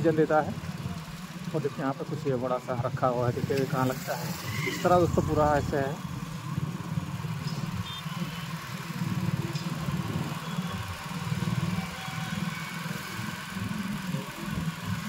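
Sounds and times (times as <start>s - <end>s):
motorcycle engine running: 0.0s - 15.0s
traffic hiss: 0.0s - 15.0s.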